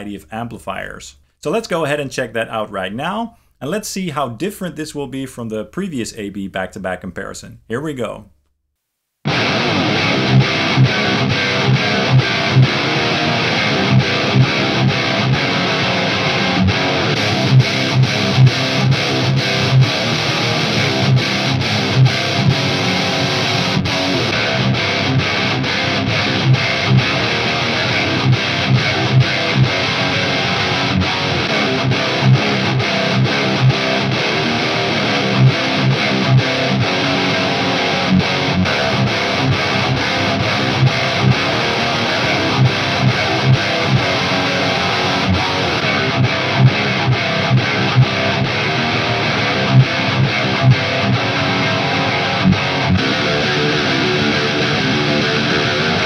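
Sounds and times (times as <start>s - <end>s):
distorted electric guitar riff: 9.2s - 56.0s.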